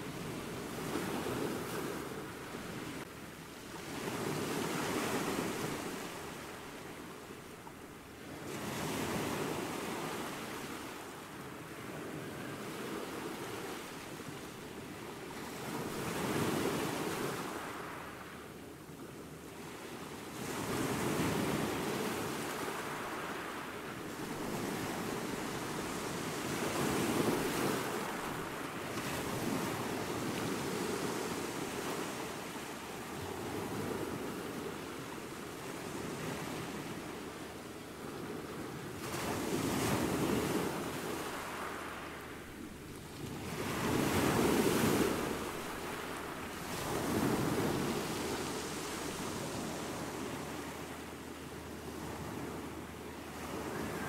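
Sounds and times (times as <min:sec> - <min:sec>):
small waves breaking on sand: 0:00.0 - 0:54.0.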